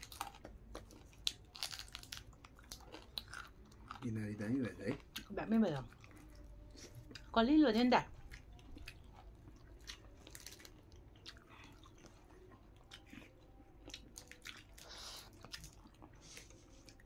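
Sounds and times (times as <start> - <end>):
person chewing: 0.0 - 7.3, 8.2 - 17.0.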